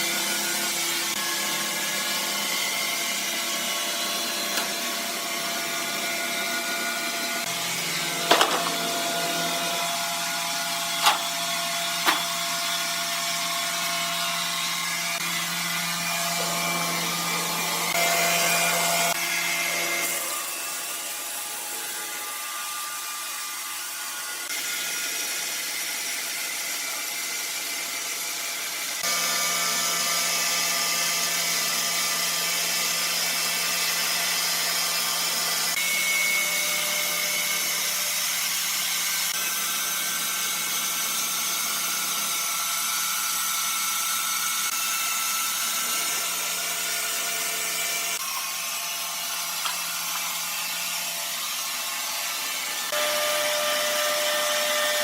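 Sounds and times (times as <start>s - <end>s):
sawmill machinery humming: 0.0s - 32.8s, 33.4s - 55.0s.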